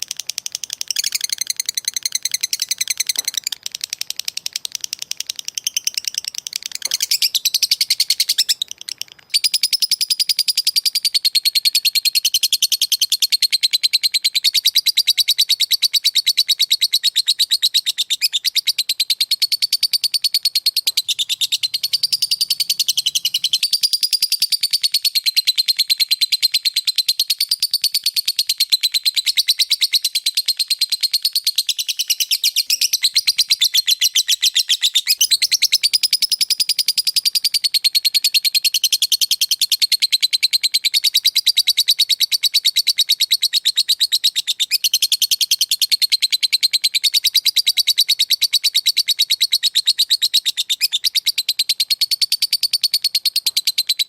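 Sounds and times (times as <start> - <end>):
bird chattering trill: 0.0 - 15.8, 16.8 - 24.9, 29.2 - 54.0.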